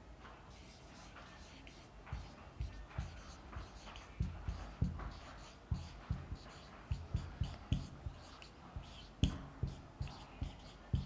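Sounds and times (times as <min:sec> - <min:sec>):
marker pen writing on whiteboard: 0:00.4 - 0:11.0.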